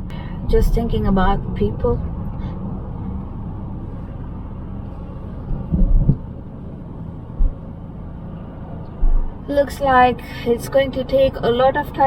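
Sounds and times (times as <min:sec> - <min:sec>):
car cabin rumble: 0:00.0 - 0:11.7.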